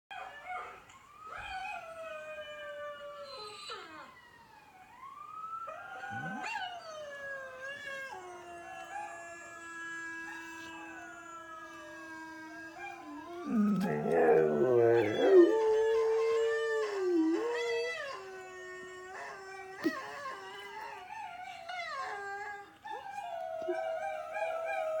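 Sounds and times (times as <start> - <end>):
dogs howling through a speaker: 0.1 - 25.0.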